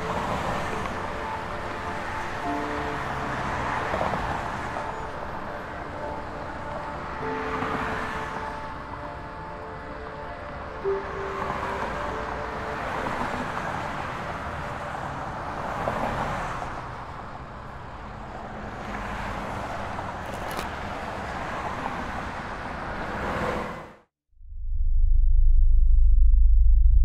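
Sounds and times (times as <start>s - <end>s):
cars passing on highway: 0.0s - 24.1s.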